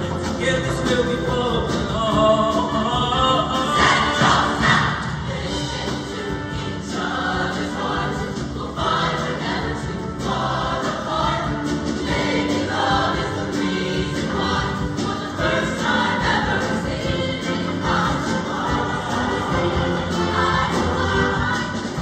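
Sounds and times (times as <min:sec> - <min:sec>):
choir singing: 0:00.0 - 0:22.0
instrumental accompaniment: 0:00.0 - 0:22.0.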